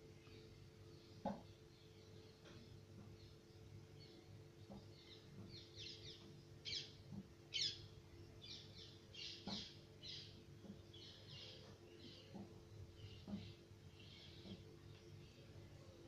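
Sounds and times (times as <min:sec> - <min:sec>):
steady low hum: 0:00.0 - 0:16.0
small birds chirping: 0:00.2 - 0:15.9.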